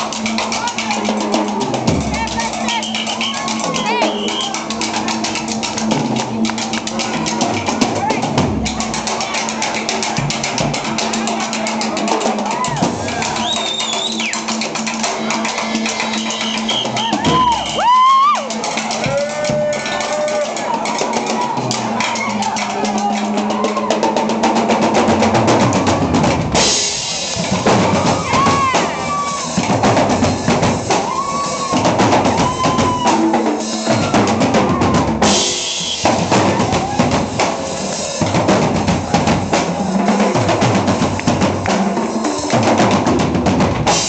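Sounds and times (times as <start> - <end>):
drum kit playing: 0.0 - 44.0.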